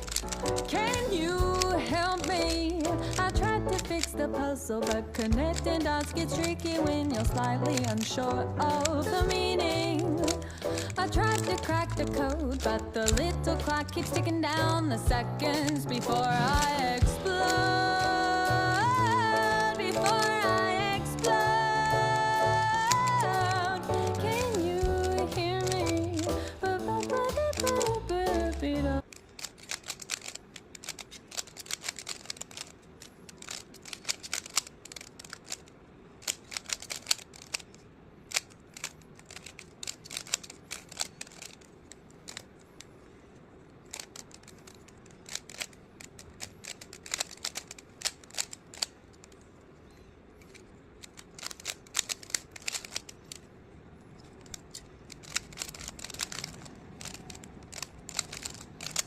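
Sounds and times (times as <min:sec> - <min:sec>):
puzzle cube clicking: 0:00.0 - 0:59.0.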